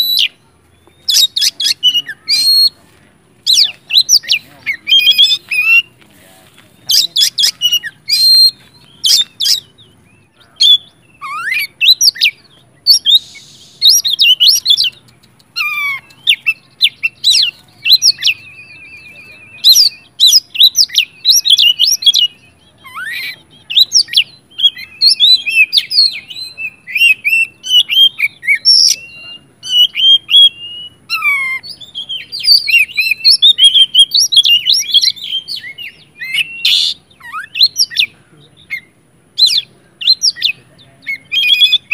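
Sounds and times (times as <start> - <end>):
magpie-robin singing: 0.0 - 41.9.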